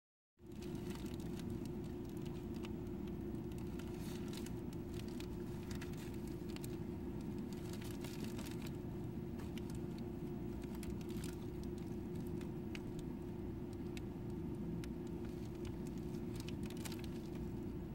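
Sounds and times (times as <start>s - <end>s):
low background rumble: 0.4s - 17.9s.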